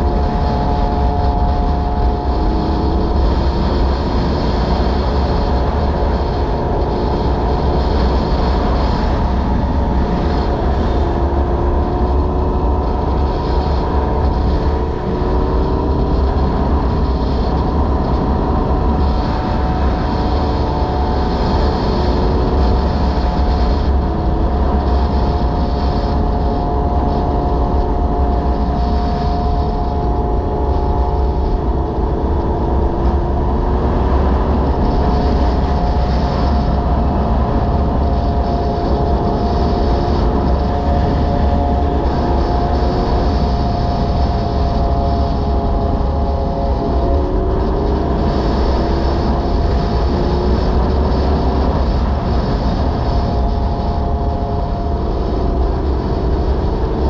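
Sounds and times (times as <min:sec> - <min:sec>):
motorcycle engine cruising: 0:00.0 - 0:57.0
wind rumble on microphone: 0:00.0 - 0:57.0.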